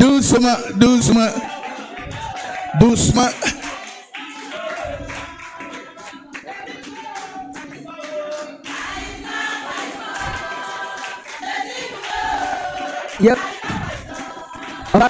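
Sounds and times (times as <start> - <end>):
group singing: 0.0 - 15.0
hand claps: 0.0 - 15.0.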